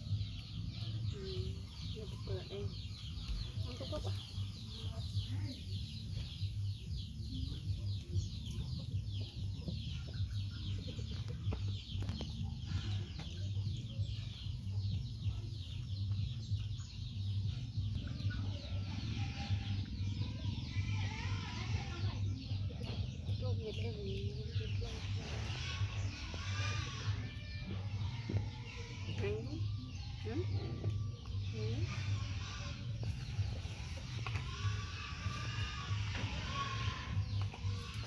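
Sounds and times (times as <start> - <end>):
chickens cheeping and clucking: 0.0 - 38.0.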